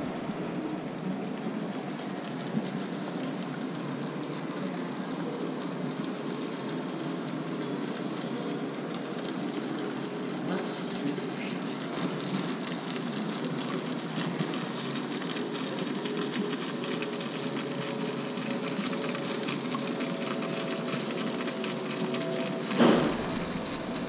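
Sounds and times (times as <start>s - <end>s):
fountain water trickling and splashing: 0.0s - 24.0s.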